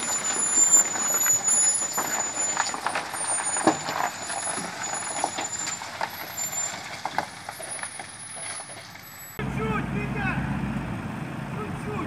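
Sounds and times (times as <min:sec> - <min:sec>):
heavy truck running: 0:00.0 - 0:12.0.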